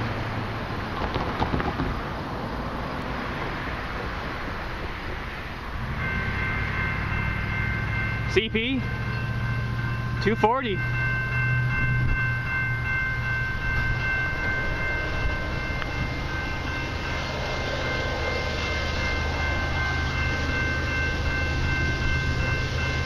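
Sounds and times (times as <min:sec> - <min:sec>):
distant freight train rumble: 0:00.0 - 0:23.0.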